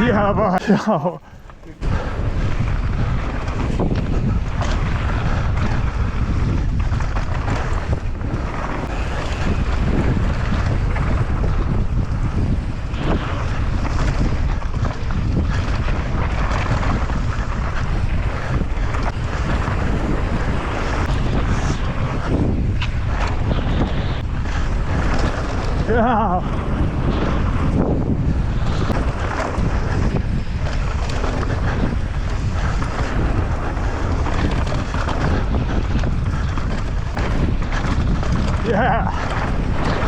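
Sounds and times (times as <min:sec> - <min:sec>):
tyre and trail noise: 0:00.0 - 0:40.0
wind buffeting microphone: 0:00.0 - 0:40.0.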